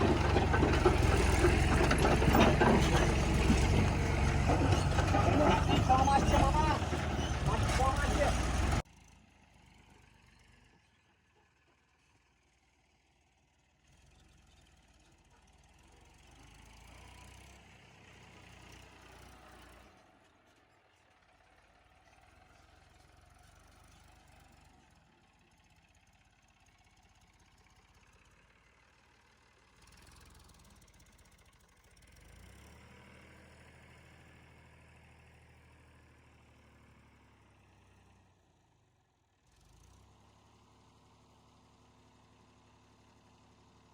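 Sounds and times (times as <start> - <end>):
faint diesel engine hum: 0.0 - 43.9.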